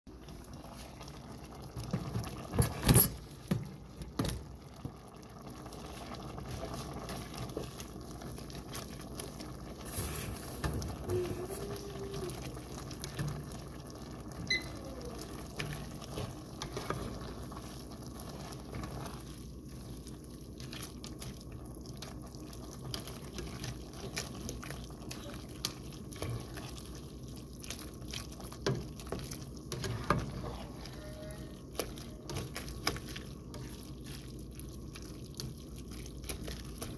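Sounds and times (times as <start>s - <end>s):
spatula stirring food in pot: 0.1s - 36.9s.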